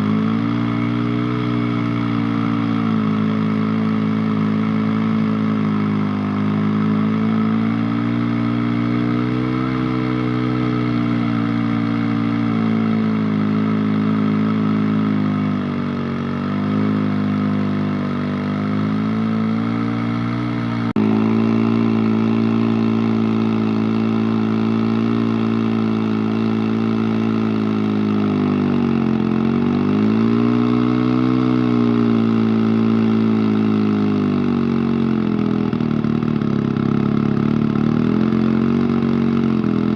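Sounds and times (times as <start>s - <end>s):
chainsaw cutting: 0.0s - 39.9s.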